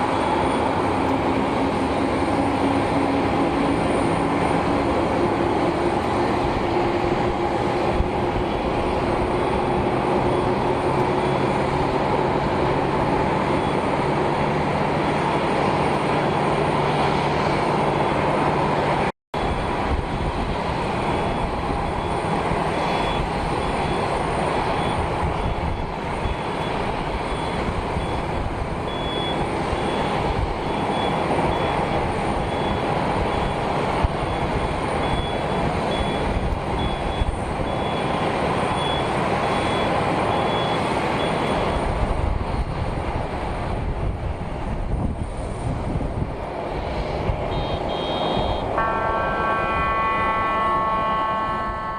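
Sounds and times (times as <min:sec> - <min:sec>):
jet engines roaring: 0:00.0 - 0:51.9.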